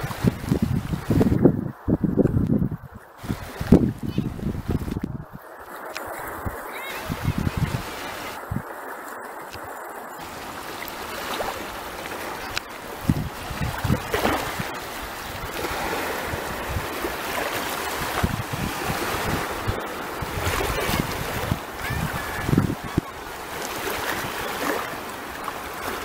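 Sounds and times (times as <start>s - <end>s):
wind buffeting microphone: 0.0s - 8.8s, 9.5s - 26.0s
waves washing over rocks: 0.0s - 26.0s.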